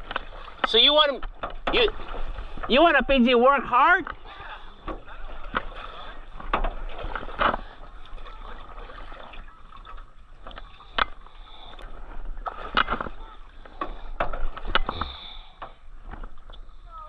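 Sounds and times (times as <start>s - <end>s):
paddle knocks: 0.0s - 4.2s, 4.8s - 11.2s, 12.2s - 16.5s
water splashing and sloshing: 0.0s - 17.0s.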